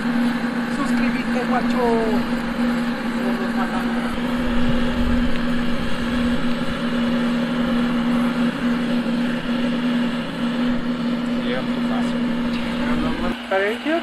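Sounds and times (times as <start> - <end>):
electric blower humming: 0.0 - 14.0.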